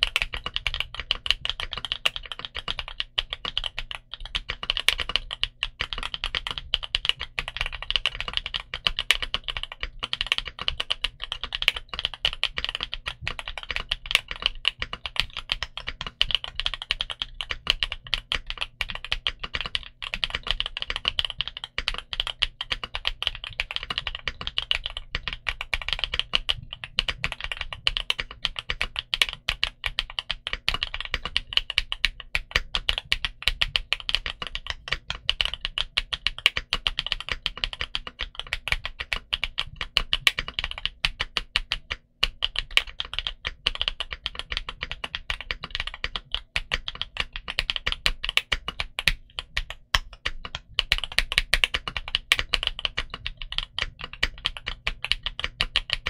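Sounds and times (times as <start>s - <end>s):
fast typing on mechanical keyboard: 0.0s - 56.0s.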